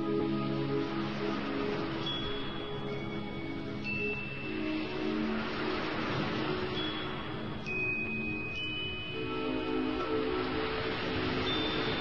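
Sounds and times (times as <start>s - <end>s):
slow ambient music: 0.0s - 12.0s
steady hiss: 0.0s - 12.0s.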